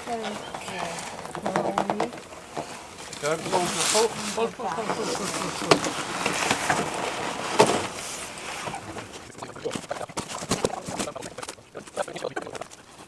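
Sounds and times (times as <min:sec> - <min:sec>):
scuffing and rustling handling noise: 0:00.0 - 0:13.0.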